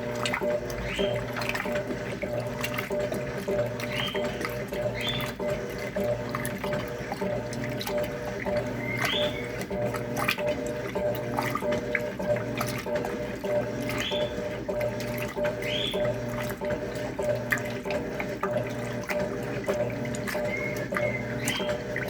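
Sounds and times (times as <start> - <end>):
washing machine motor humming: 0.0 - 22.0
water sloshing: 0.0 - 22.0.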